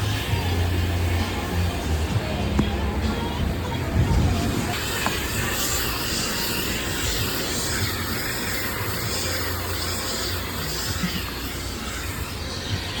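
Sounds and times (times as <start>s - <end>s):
car wash machinery rushing: 0.0s - 13.0s.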